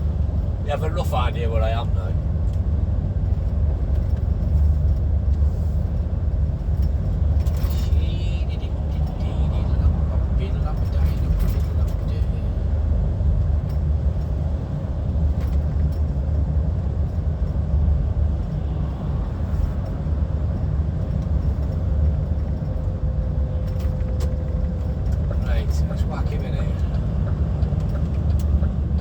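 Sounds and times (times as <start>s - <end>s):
diesel engine rumble: 0.0s - 29.0s
road noise: 0.0s - 29.0s.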